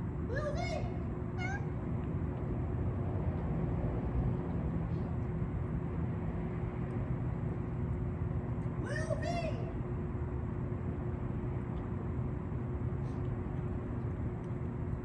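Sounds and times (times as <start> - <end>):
faint steady hum: 0.0 - 15.0
low vehicle-like rumble: 0.0 - 15.0.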